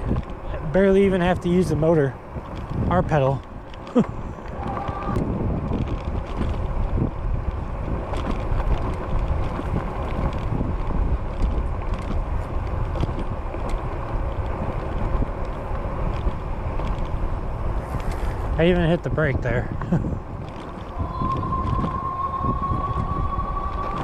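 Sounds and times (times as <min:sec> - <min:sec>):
tires rumbling on pavement: 0:00.0 - 0:24.0
wind rushing over microphone: 0:00.0 - 0:24.0.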